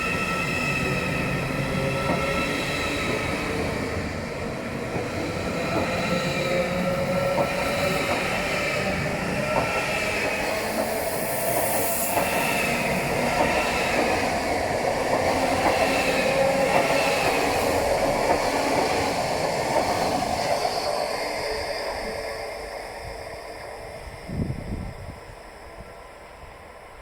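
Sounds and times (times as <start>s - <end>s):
train running and wheel noise: 0.0s - 27.0s.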